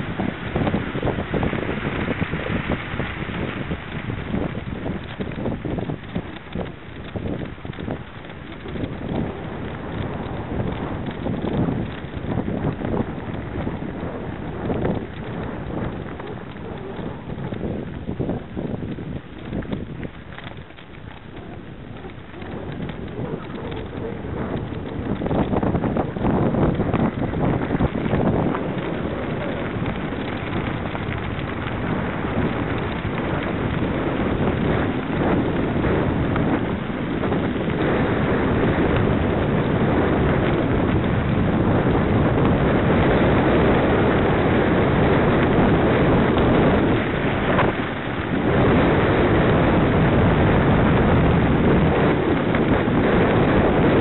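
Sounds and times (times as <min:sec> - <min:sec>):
bike tyres rumbling on gravel: 0:00.0 - 0:54.0
wind buffeting microphone: 0:00.0 - 0:54.0.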